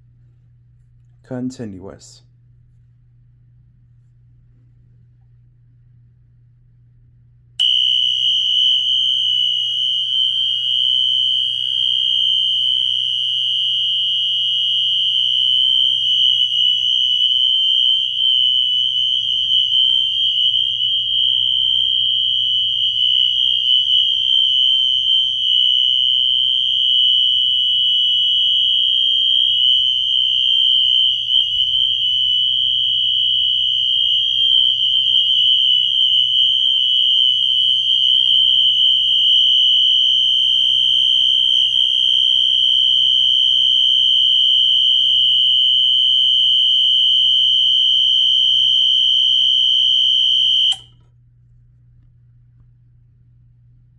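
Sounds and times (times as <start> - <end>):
fire alarm horn tone: 7.6 - 51.0.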